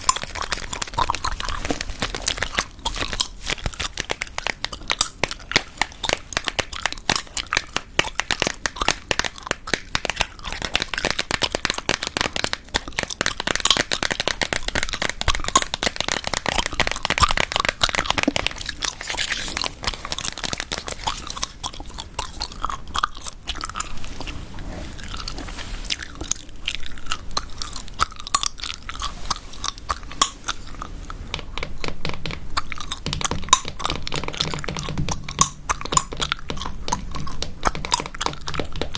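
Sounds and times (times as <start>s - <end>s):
gum chewing: 0.0s - 38.9s.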